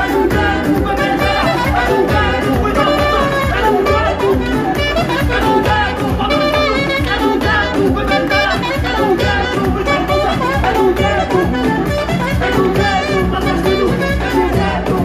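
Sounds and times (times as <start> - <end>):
live band with heavy bass: 0.0 - 15.0
man singing into a microphone: 0.0 - 15.0.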